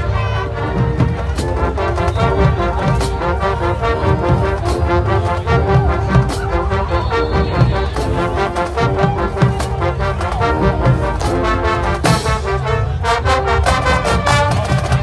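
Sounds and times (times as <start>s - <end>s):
marching band brass: 0.0s - 15.0s
steady drum beat: 0.8s - 15.0s.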